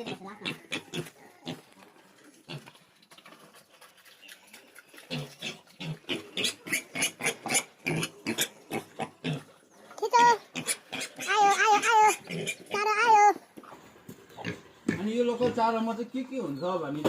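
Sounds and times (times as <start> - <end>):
pigs grunting and chomping: 0.0 - 15.8.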